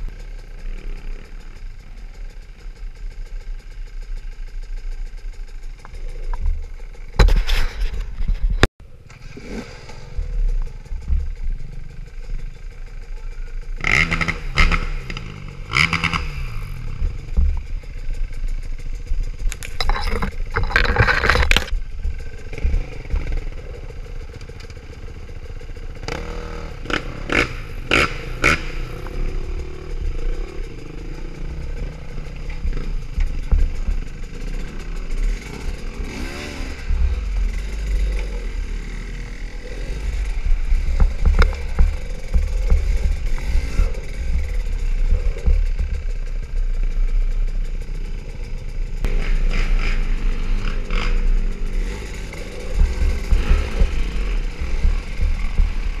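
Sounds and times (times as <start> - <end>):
dirt bike engine idling: 0.0 - 56.0
other dirt bikes running: 0.0 - 56.0
engine throttle bursts: 3.2 - 56.0.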